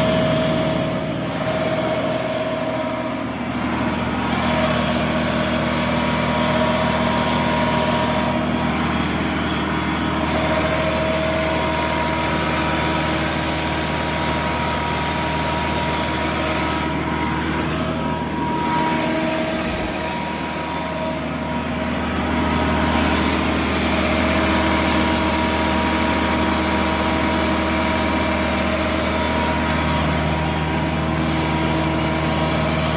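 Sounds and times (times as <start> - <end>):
diesel generator engine running: 0.0 - 32.9.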